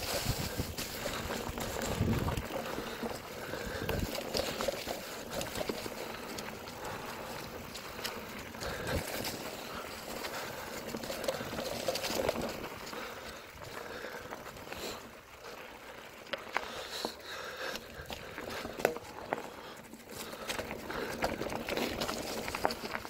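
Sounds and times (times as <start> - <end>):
bicycle tyres on dry leaves: 0.0 - 23.0.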